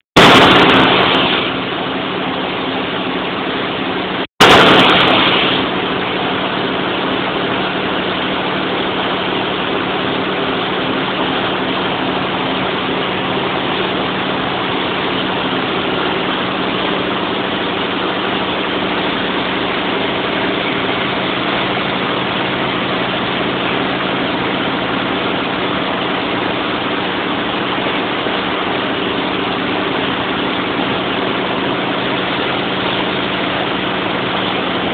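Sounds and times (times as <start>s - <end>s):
generator engine running: 0.0s - 34.9s.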